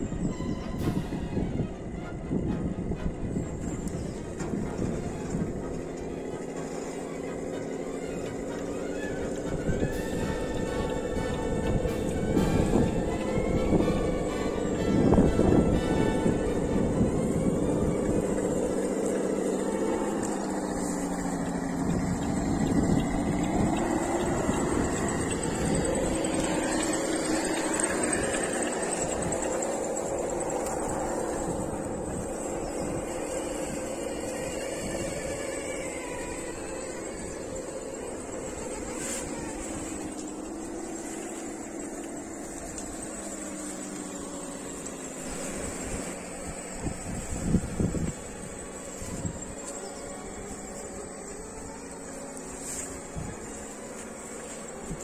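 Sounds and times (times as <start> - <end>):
driving over dry leaves: 0.0 - 55.0
electric motor and gearbox whine: 0.0 - 55.0.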